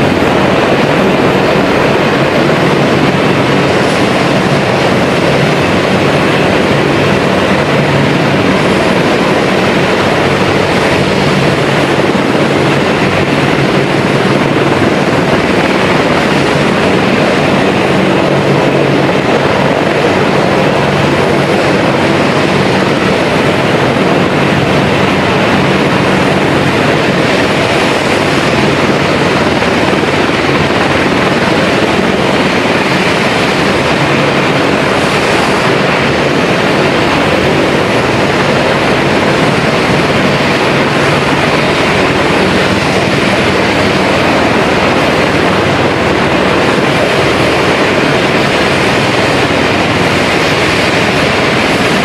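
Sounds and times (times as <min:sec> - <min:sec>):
helicopter engines and rotors: 0:00.0 - 0:52.0.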